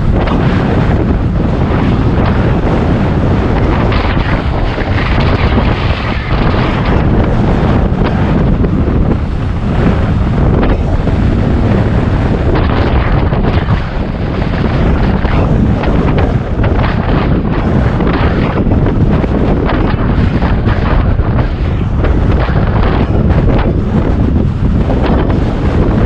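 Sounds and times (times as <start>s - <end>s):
wind rushing across microphone: 0.0s - 26.0s.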